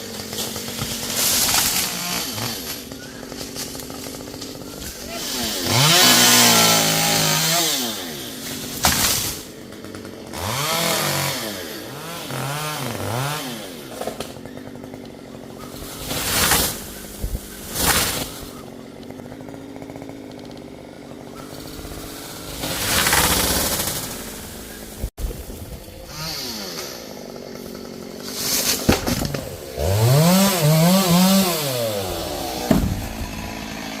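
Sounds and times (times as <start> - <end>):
chainsaw engine revving: 0.0 - 25.1, 25.8 - 34.0.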